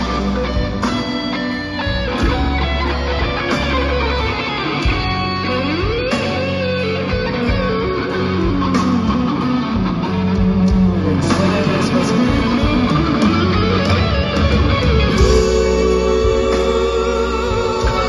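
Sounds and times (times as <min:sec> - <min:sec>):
band backing with bass: 0:00.0 - 0:18.0
electric guitar solo: 0:00.0 - 0:18.0.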